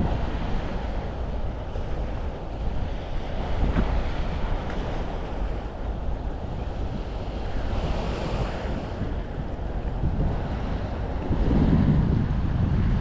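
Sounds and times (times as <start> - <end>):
outdoor rush of noise: 0.0 - 13.0
wind buffeting microphone: 0.0 - 13.0.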